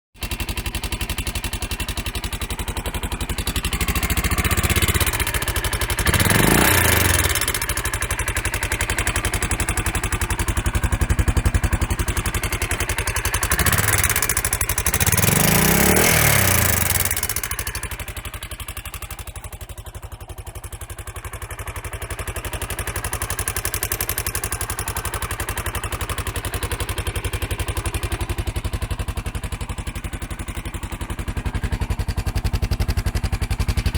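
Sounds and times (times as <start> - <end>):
motorcycle engine idling and revving: 0.2 - 33.9.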